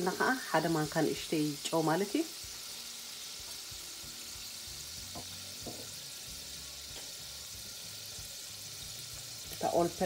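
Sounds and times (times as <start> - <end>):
butter sizzling in saucepan: 0.0 - 10.0.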